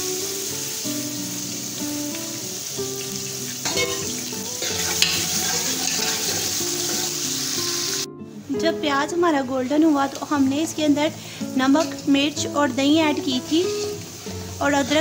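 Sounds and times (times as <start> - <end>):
onions sizzling in hot oil: 0.0 - 8.1, 9.8 - 15.0.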